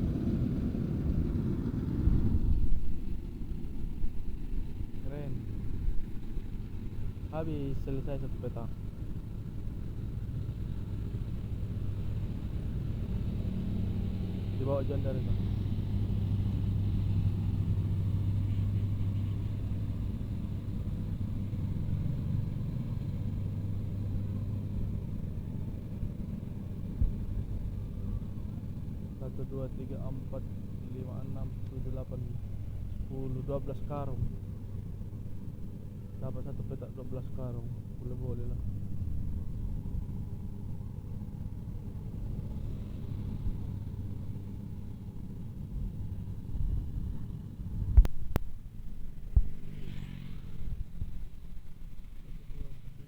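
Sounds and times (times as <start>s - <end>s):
farm machinery engine rumbling: 0.0s - 53.0s.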